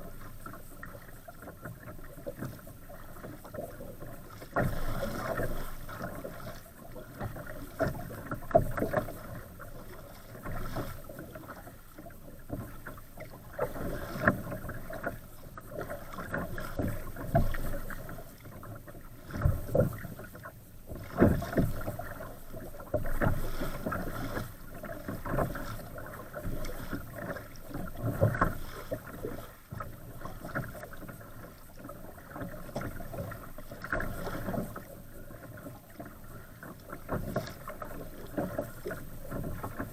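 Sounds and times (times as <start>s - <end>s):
water slapping against kayak hull: 0.0s - 39.9s.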